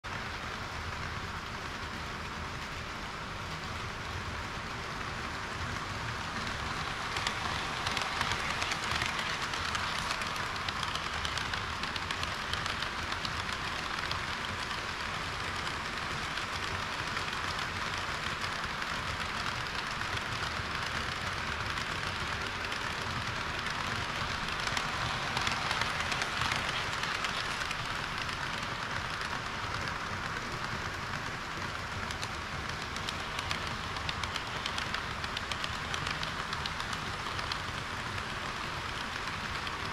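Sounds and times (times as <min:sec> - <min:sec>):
model train wheels rattling: 0:00.1 - 0:39.9
clicking at rail joints: 0:03.5 - 0:39.9.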